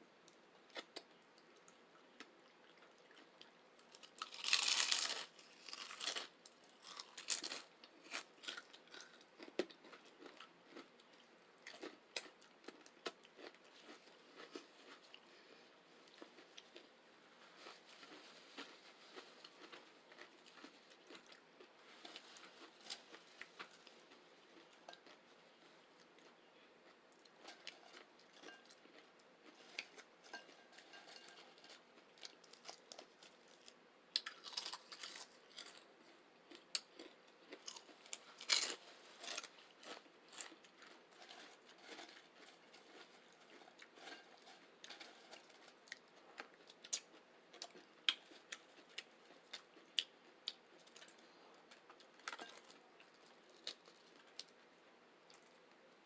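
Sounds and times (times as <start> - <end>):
chewing and crunching chips: 0.2 - 56.0.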